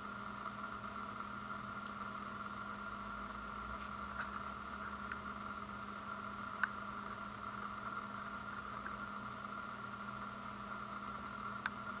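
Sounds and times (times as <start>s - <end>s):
electrical hum with fixed tones: 0.0s - 12.0s.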